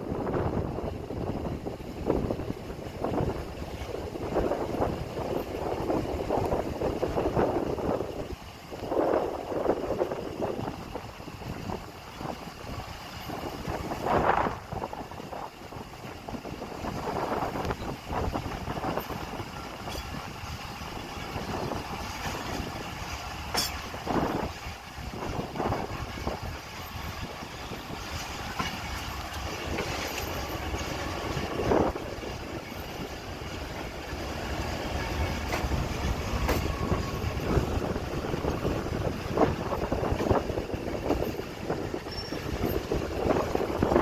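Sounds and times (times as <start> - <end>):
train wheels rumbling on rails: 0.0 - 44.0
wheels clacking over rail joints: 0.1 - 44.0.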